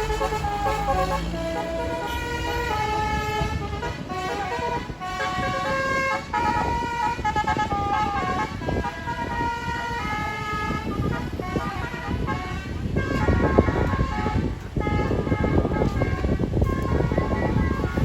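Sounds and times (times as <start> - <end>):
musical air horn playing tune: 0.0 - 18.0
vehicle noise: 0.0 - 18.0.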